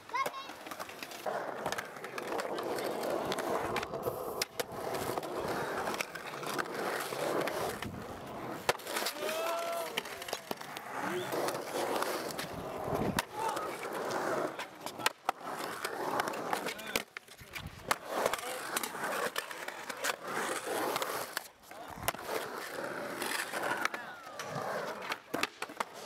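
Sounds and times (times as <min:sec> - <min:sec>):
skateboard clacking on concrete: 0:00.0 - 0:26.0
skateboard wheels rolling on concrete: 0:00.0 - 0:26.0.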